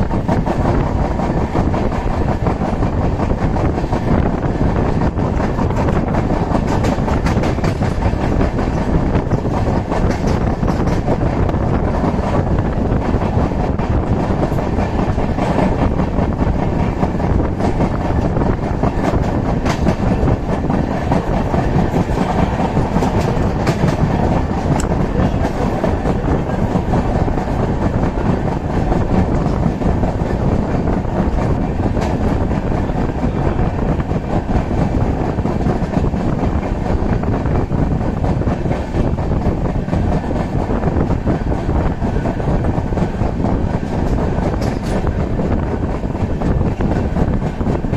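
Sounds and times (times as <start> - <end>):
train wheels clicking and clattering: 0.0 - 47.9
train wheels rumbling on rails: 0.0 - 47.9.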